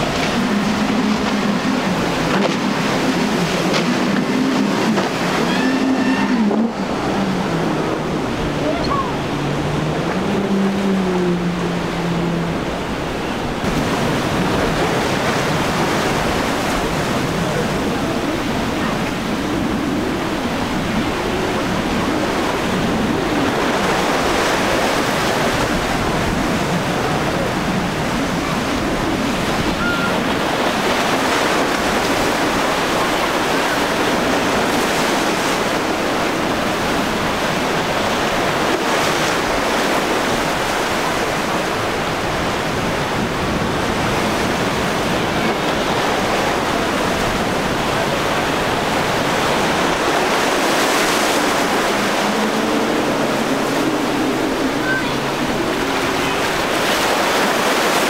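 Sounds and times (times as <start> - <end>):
choppy water splashing: 0.0 - 58.0.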